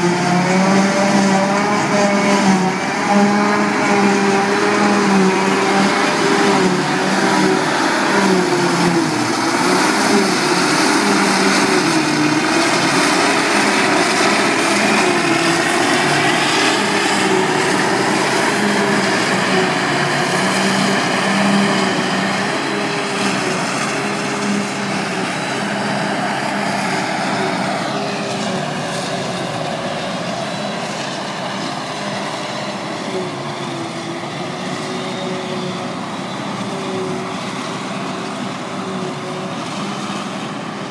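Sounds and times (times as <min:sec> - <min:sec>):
harvester engine droning and whining: 0:00.0 - 0:40.9.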